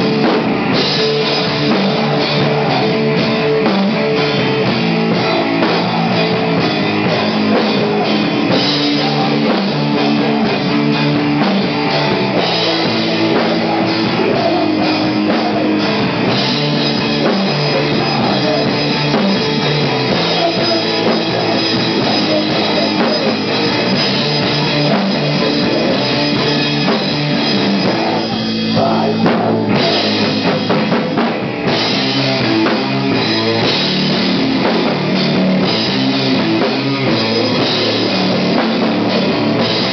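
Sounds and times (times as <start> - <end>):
drum kit: 0.0 - 39.9
heavy electric guitar: 0.0 - 39.9.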